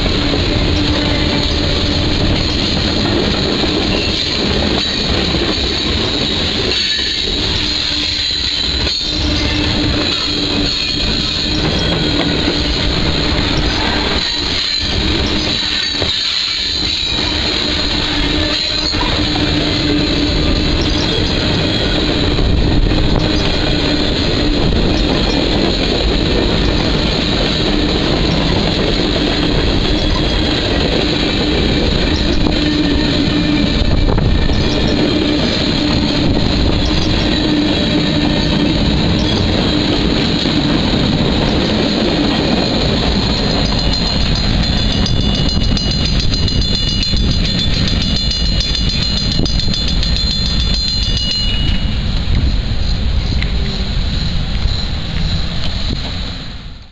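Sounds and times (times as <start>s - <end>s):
train wheels clicking over rail joints: 0.0s - 56.2s
heavy train rumble: 0.0s - 56.9s.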